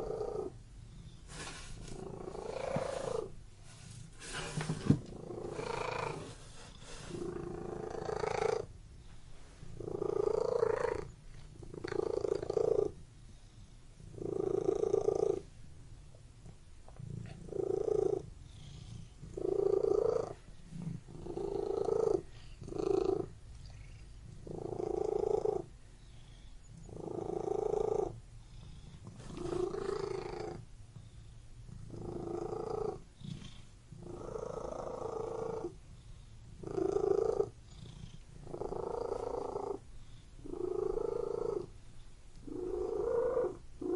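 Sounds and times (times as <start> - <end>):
cat purring: 0.0 - 8.8, 9.6 - 15.6, 16.8 - 43.9.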